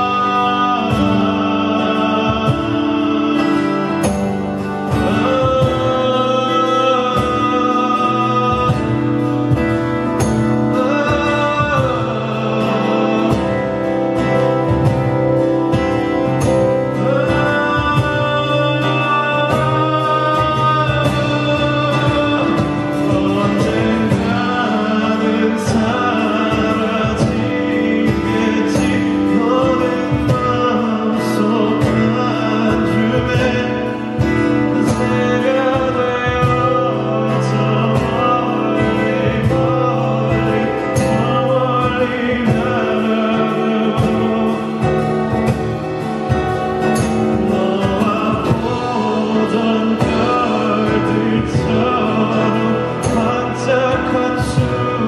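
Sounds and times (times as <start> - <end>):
guitar: 0.0 - 55.0
man singing: 0.0 - 55.0
sharp percussion strikes: 0.0 - 55.0.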